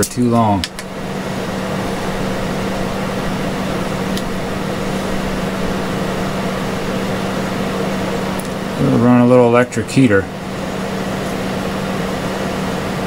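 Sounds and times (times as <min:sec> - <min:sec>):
space heater fan humming: 0:00.0 - 0:13.0.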